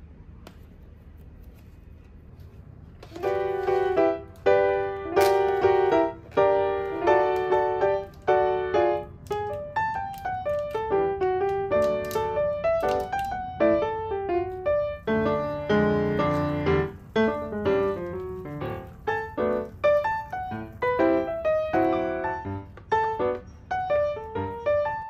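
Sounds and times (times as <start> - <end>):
faint steady hiss: 0.0 - 25.0
soft piano chords: 3.0 - 25.0.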